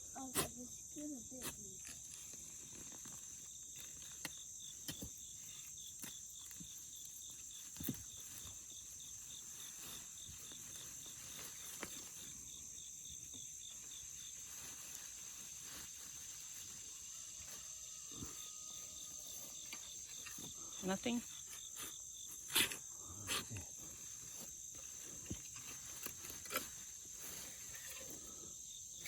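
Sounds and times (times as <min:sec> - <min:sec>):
cricket chirping: 0:00.0 - 0:29.0
insect chorus: 0:00.0 - 0:29.0.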